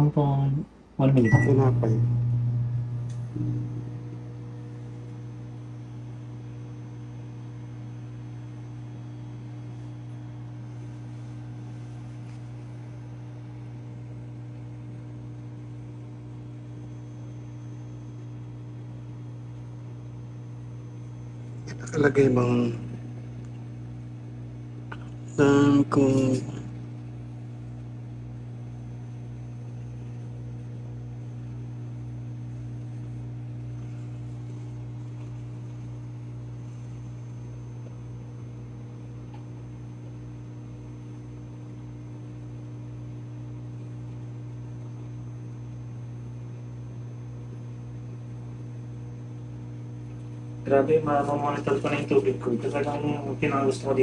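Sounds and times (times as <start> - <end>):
microwave oven humming: 0.0 - 54.0.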